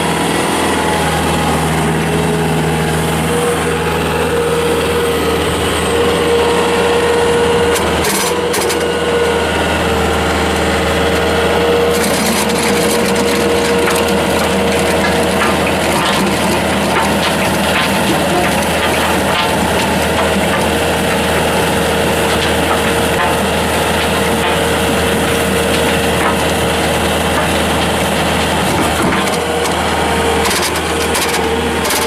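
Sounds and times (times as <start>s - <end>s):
diesel engine running under load: 0.0s - 32.0s
rotary tiller churning soil: 0.0s - 32.0s
constant whine: 0.8s - 32.0s.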